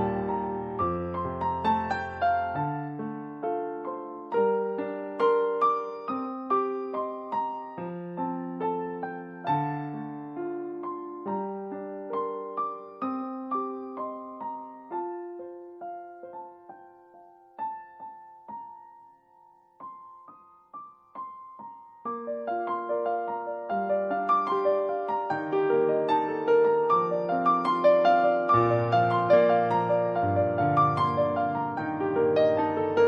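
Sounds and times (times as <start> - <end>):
solo piano piece: 0.0 - 33.0.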